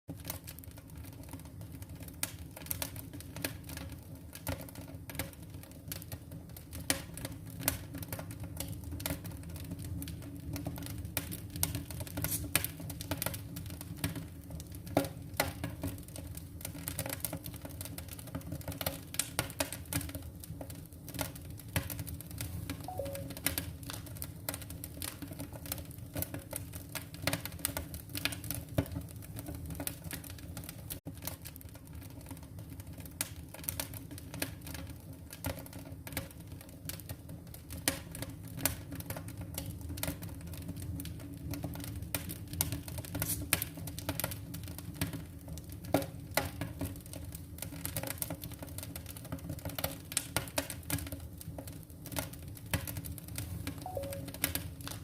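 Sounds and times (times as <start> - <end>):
firewood crackling and popping: 0.1 - 55.0.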